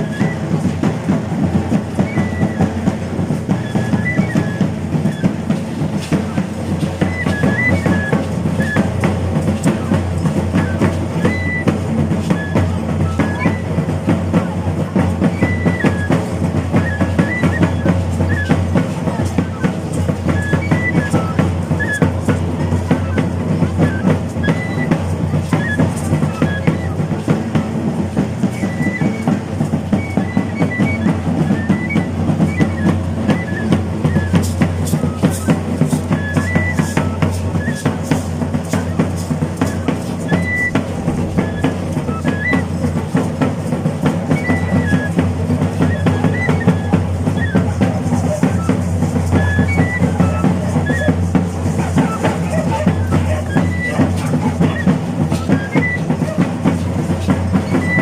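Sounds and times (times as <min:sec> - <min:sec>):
cane flute piping high notes: 0:00.0 - 0:58.0
drum beaten in fast rhythm: 0:00.0 - 0:58.0.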